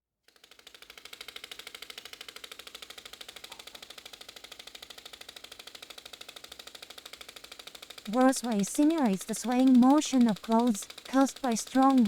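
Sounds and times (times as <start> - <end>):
fast mechanical rattle: 0.2 - 12.0.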